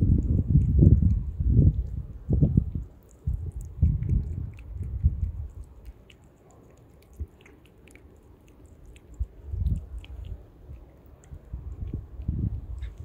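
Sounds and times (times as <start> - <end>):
kitten chewing wet food: 0.0 - 13.0.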